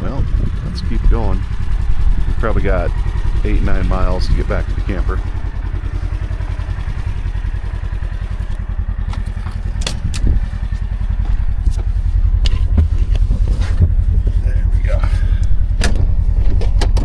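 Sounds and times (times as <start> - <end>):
utility vehicle engine running: 0.0 - 17.0
vehicle rattling clicks and knocks: 0.0 - 17.0.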